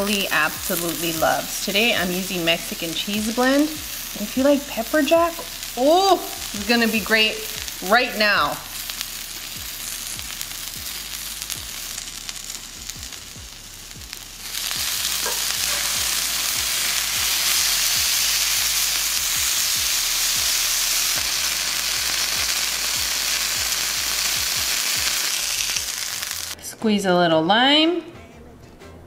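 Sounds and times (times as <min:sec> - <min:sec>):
food sizzling with crackles: 0:00.0 - 0:26.6.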